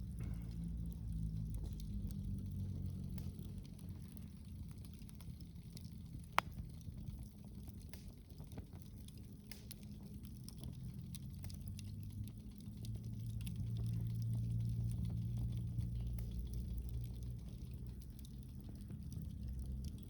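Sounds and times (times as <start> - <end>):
low rumble: 0.0 - 8.0, 10.2 - 20.0
wood fire crackling: 0.0 - 20.0.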